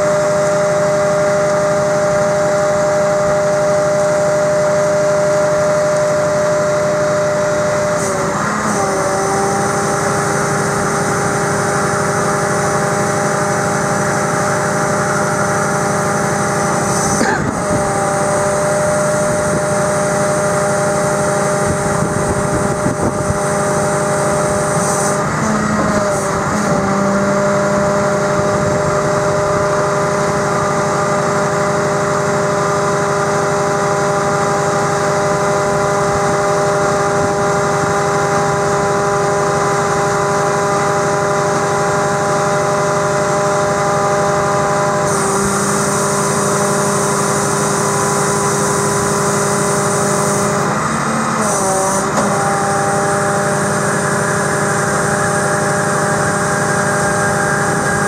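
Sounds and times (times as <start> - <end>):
diesel truck engine running: 0.0 - 58.0
hydraulic whine: 0.0 - 58.0.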